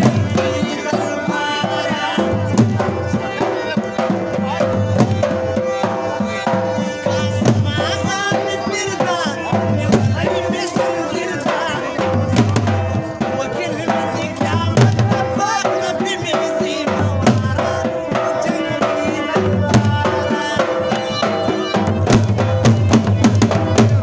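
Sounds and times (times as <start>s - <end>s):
dhol drums beaten with sticks: 0.0s - 24.0s
wavering loud melody: 0.0s - 24.0s.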